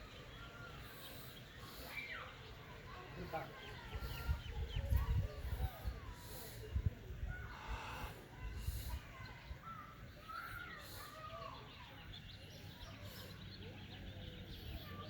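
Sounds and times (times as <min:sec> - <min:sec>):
birds chirping: 0:00.0 - 0:15.0
low outdoor background: 0:00.0 - 0:15.0.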